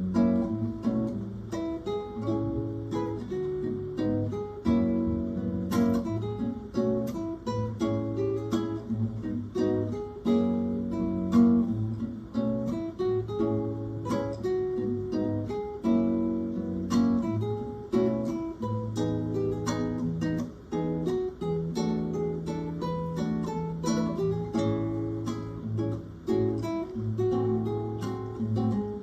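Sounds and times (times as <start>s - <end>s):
acoustic guitar strumming and plucking: 0.0s - 29.0s.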